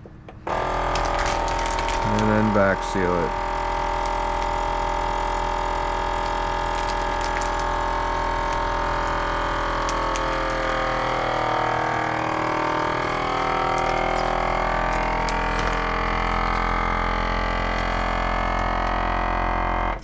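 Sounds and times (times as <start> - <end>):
vacuum sealer pump humming: 0.0 - 20.0.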